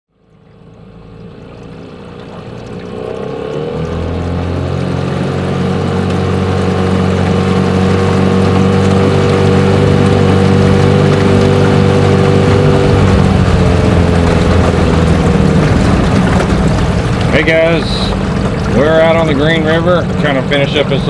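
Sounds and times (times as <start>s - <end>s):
outboard motor running: 0.1s - 21.0s.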